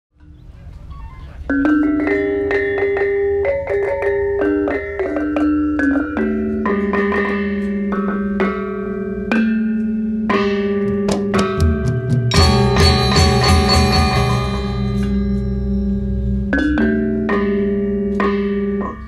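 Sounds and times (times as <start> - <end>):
gamelan ensemble playing: 0.2 - 19.0.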